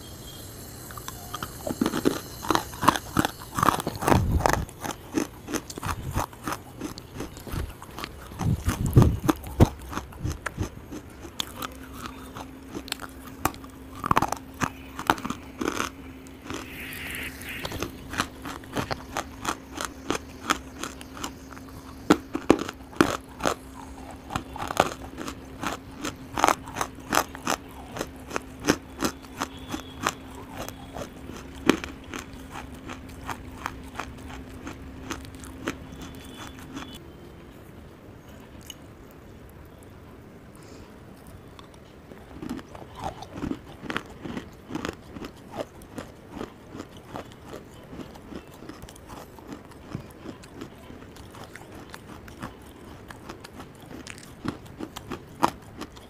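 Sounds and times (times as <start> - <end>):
faint steady hum: 0.0 - 56.0
crunchy chewing: 0.2 - 37.0, 40.5 - 56.0.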